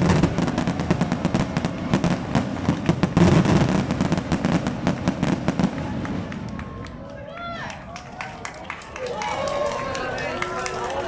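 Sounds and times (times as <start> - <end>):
firework crackling and popping: 0.0 - 11.0.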